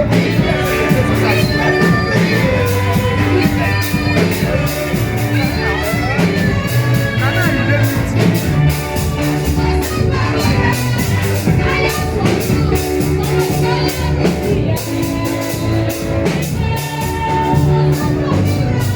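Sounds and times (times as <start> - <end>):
band playing praise music: 0.0 - 18.9
voices singing: 0.0 - 18.9.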